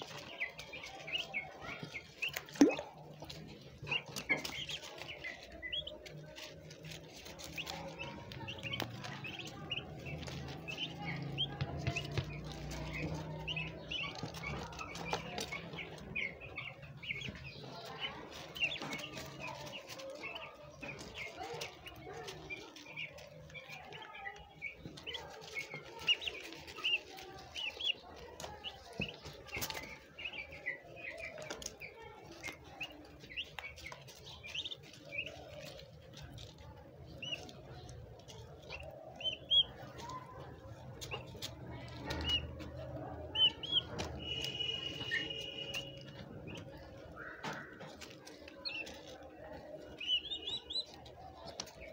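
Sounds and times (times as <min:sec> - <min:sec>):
turkey poults peeping: 0:00.0 - 0:51.9.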